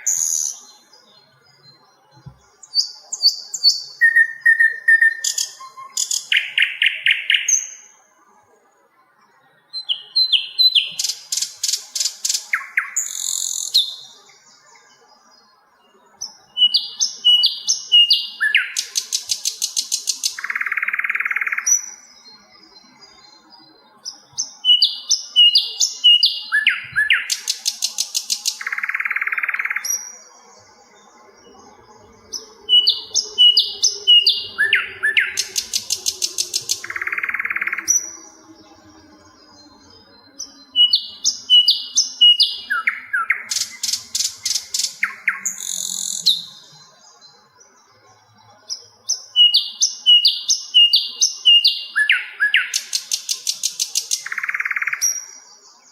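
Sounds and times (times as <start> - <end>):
bird song with whistles and trill: 0.0 - 8.1, 9.0 - 55.9.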